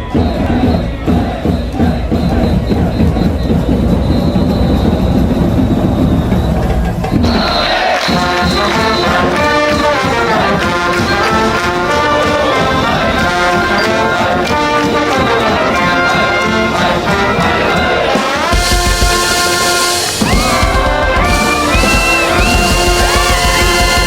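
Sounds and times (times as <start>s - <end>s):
orchestral brass music: 0.2s - 24.0s.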